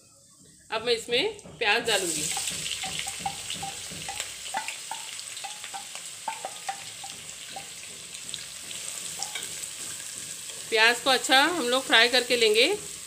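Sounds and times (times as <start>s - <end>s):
onions sizzling in oil: 1.0s - 13.0s.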